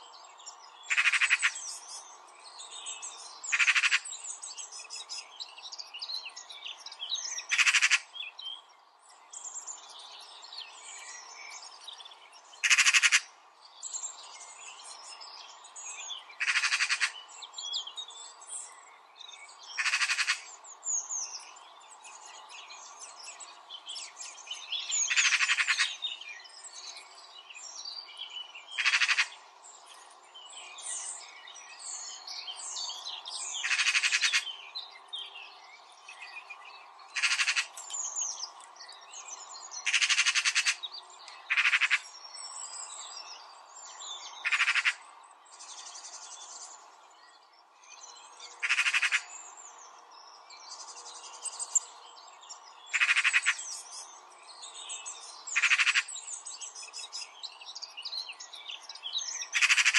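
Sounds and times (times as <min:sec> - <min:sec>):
birds chirping: 0:00.2 - 0:59.9.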